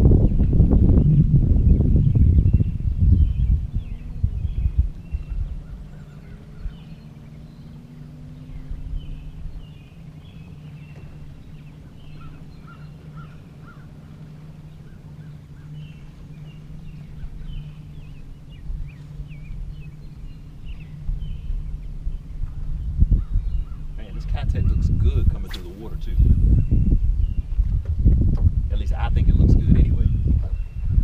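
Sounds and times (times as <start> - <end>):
low tone rising in pitch: 0.0 - 28.7
low motor hum: 0.0 - 31.0
birds chirping: 0.2 - 27.8.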